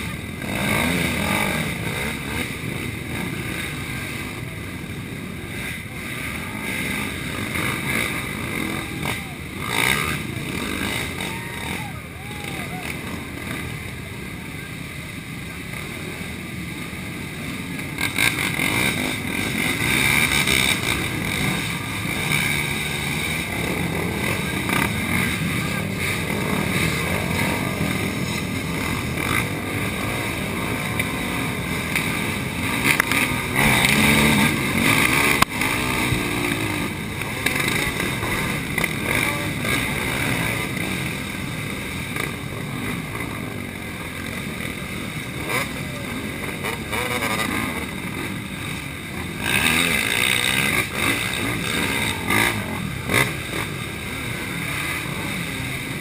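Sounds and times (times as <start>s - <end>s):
quad engines revving: 0.0s - 56.0s.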